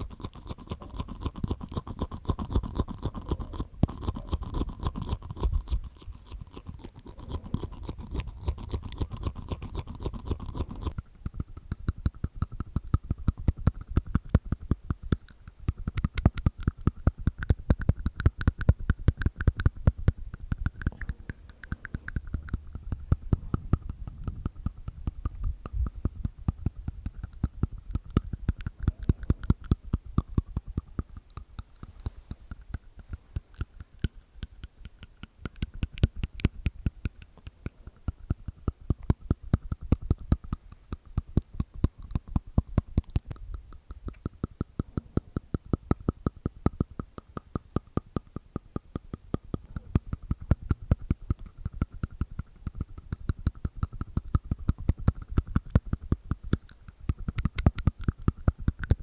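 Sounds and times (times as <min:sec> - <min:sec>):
mouth clicks with tongue: 0:00.0 - 0:59.0.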